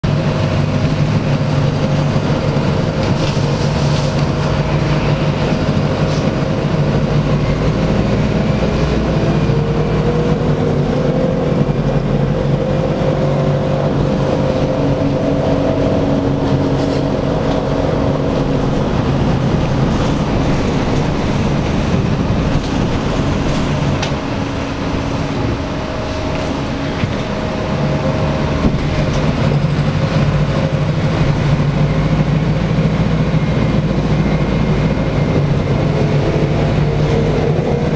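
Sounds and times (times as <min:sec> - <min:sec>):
bus engine drone: 0:00.0 - 0:37.9
road noise: 0:00.0 - 0:37.9.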